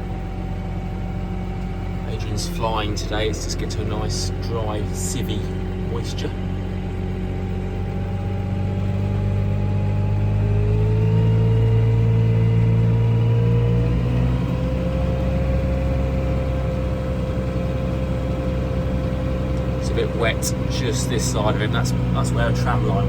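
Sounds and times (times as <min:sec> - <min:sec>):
harvester engine hum: 0:00.0 - 0:23.0
thin machine whine: 0:00.0 - 0:23.0.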